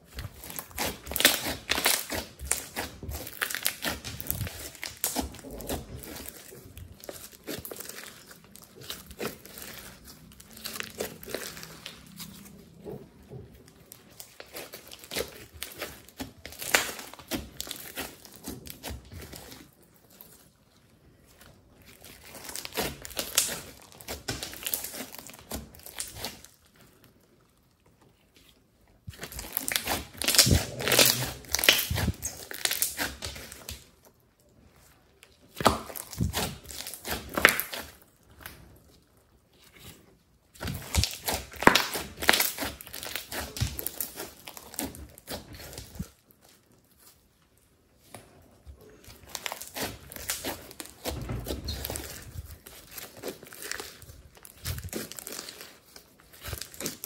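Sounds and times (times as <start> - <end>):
slime crackling and popping: 0.0 - 27.7, 28.3 - 57.0.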